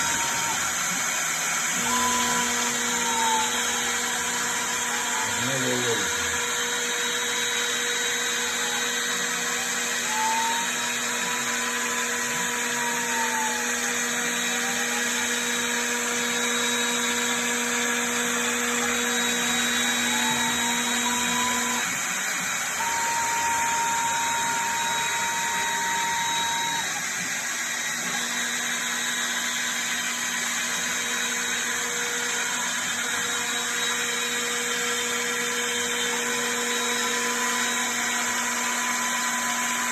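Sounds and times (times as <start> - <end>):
cnc router running: 0.0 - 39.9.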